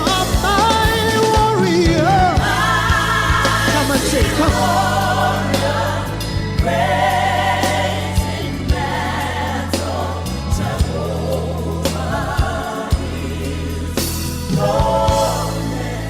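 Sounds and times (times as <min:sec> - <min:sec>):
group singing gospel: 0:00.0 - 0:16.0.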